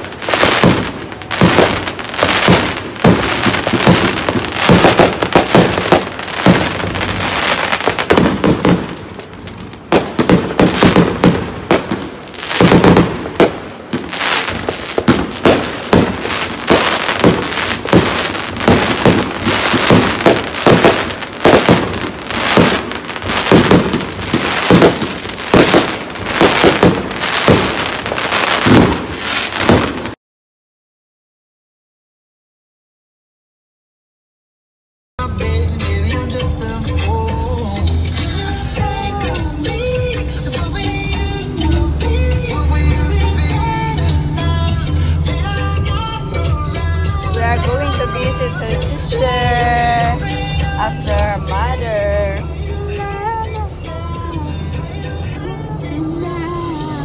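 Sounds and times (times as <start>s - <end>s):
fireworks bangs and crackling: 0.0s - 30.2s, 35.2s - 57.0s.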